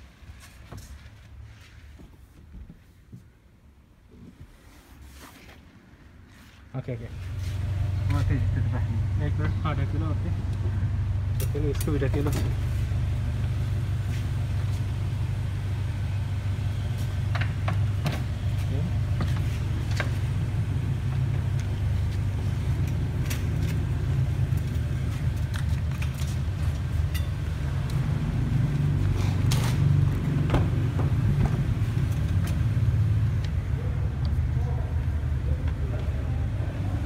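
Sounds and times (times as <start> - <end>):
steady low rumble: 7.0 - 37.0.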